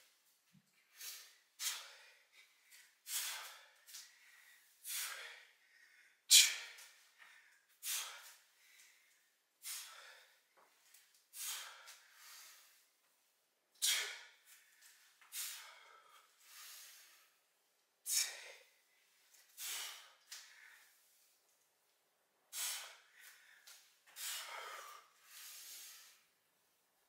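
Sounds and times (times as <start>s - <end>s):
man breathing hard under exertion: 0.9s - 10.7s, 11.3s - 12.8s, 13.8s - 17.4s, 18.0s - 21.1s, 22.5s - 26.3s.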